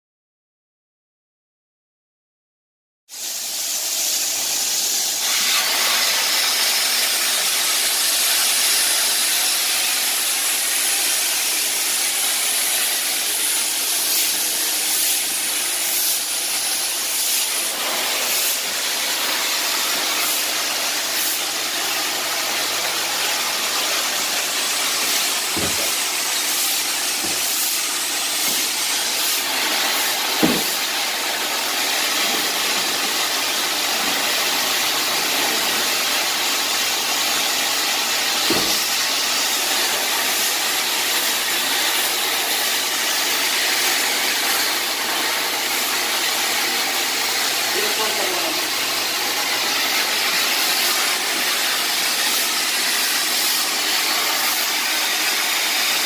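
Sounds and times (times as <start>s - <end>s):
extractor vacuum hissing: 3.1s - 56.0s.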